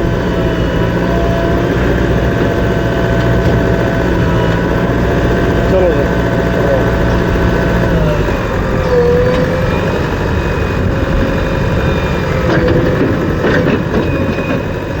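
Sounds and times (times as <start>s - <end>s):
heavy engine running: 0.0s - 15.0s.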